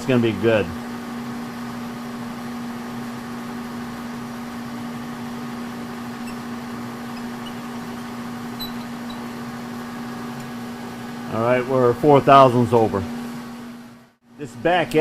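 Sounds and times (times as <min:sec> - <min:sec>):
electric machine hum: 0:00.0 - 0:14.2.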